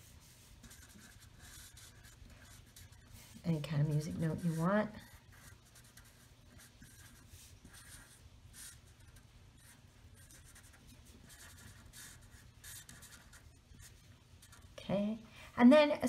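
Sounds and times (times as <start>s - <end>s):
marker stroking on paper: 0.0s - 14.8s.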